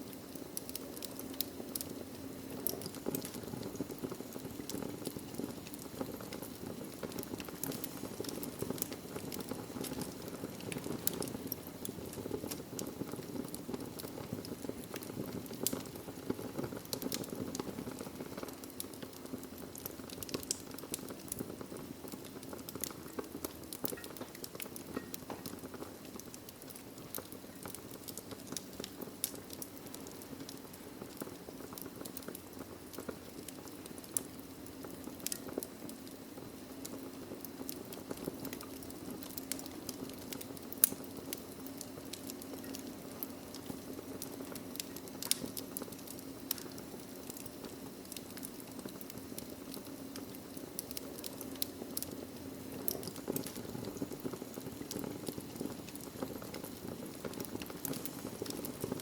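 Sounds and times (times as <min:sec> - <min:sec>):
fire crackling and popping: 0:00.0 - 0:59.0
low rumble of flames: 0:00.0 - 0:59.0.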